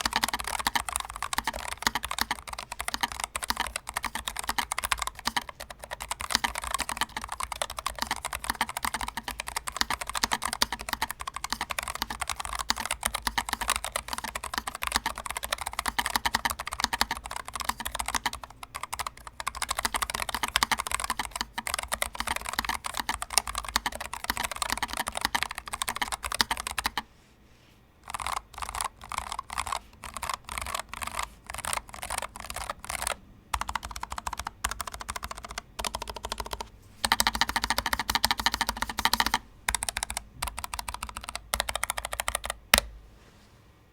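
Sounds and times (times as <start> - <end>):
mechanical keyboard typing: 0.0 - 27.1, 28.0 - 42.9.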